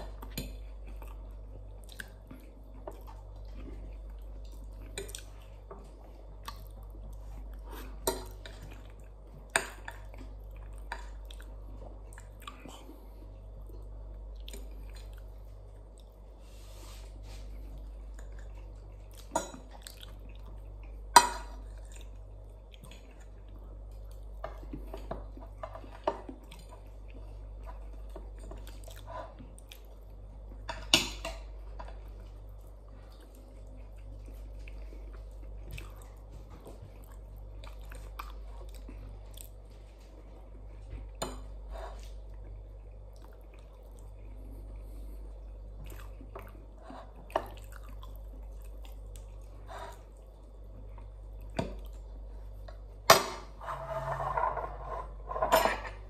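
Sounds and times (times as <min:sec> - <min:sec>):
chewing and wet mouth noises: 0:00.0 - 0:16.2, 0:17.3 - 0:30.7, 0:31.9 - 0:41.2, 0:41.9 - 0:52.9.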